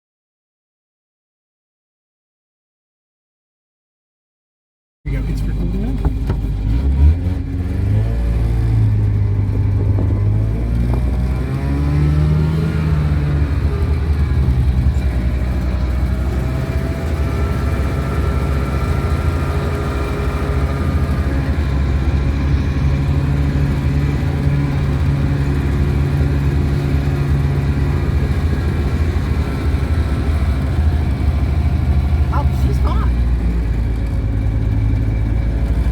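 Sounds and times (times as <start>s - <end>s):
small truck engine revving: 5.1s - 35.9s.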